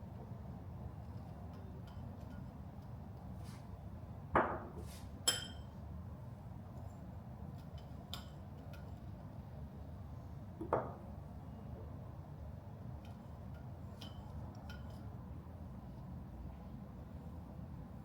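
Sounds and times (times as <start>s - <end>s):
low steady background hum: 0.0s - 18.0s.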